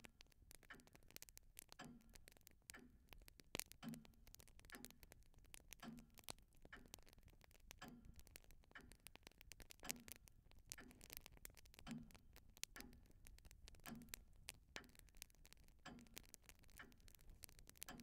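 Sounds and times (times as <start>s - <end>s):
clock ticking: 0.0s - 18.0s
small crackling clicks: 0.0s - 18.0s.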